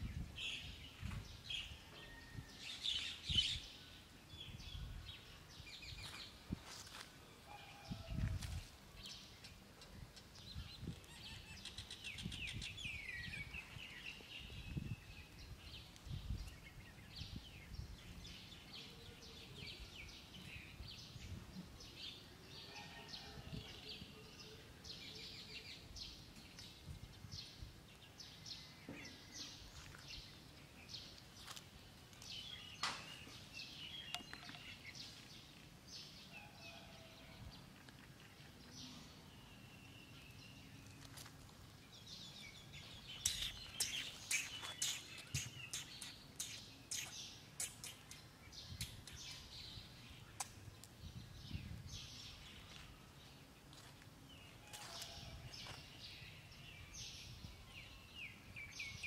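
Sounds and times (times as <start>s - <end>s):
small birds chirping: 7.8s - 22.5s, 23.1s - 59.0s.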